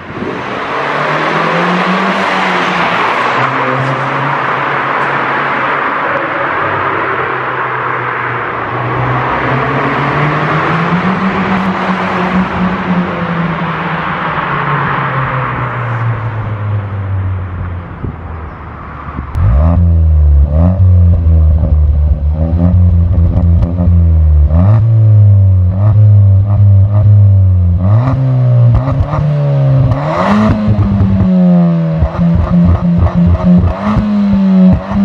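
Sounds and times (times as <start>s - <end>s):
car engine revving: 0.0s - 18.1s, 19.1s - 35.0s.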